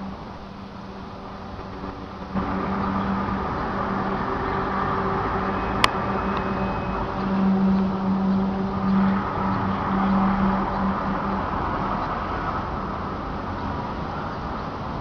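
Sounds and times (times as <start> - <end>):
low droning hum: 0.0 - 15.0
rumbling background noise: 0.0 - 15.0.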